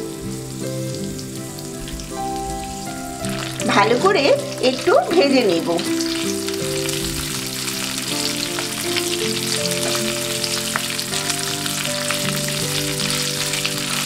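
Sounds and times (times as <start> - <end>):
soft background music: 0.0 - 14.0
spices sizzling in hot oil: 0.0 - 14.0.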